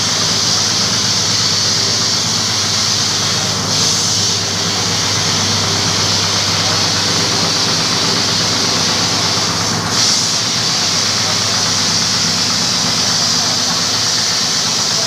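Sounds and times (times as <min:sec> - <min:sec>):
carpet washing machine running: 0:00.0 - 0:15.0.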